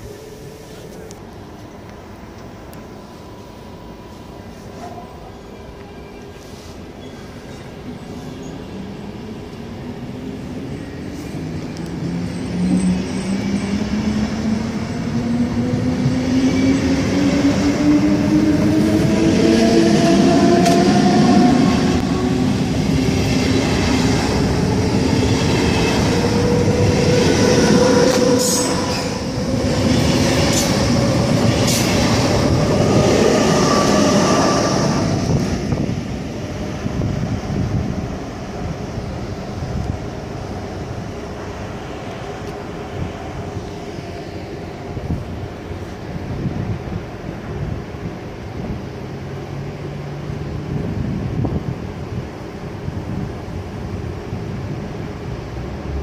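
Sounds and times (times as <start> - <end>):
locomotive traction whine: 0.0 - 47.7.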